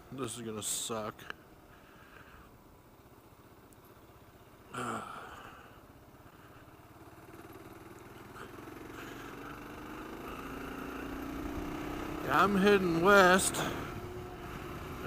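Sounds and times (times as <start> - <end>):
motorcycle engine running: 1.4 - 15.0.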